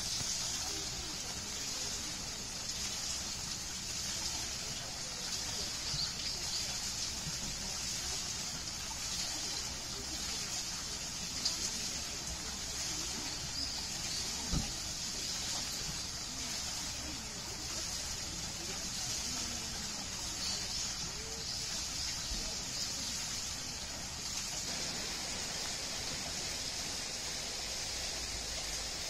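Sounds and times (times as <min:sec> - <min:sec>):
water splashing off water wheel: 0:00.0 - 0:29.0.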